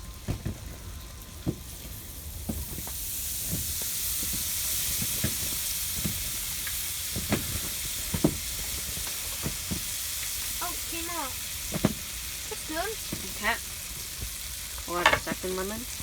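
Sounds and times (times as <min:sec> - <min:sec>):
fish sizzling in hot oil: 0:01.2 - 0:16.0.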